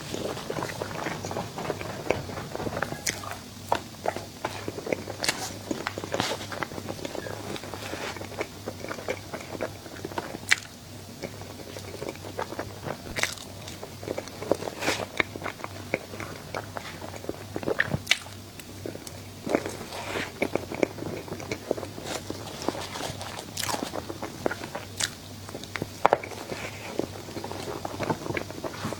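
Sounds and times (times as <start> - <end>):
biting and chewing dessert: 0.0 - 28.9.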